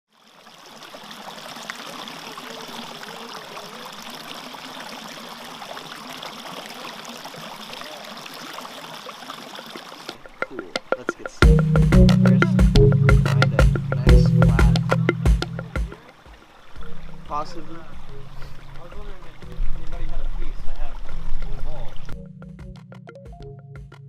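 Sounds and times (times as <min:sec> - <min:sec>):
running water: 0:00.1 - 0:23.0.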